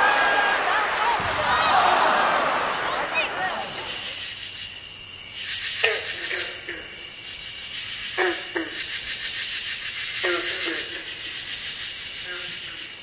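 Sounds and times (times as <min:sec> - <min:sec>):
pulsing insect chorus: 0:02.1 - 0:13.0.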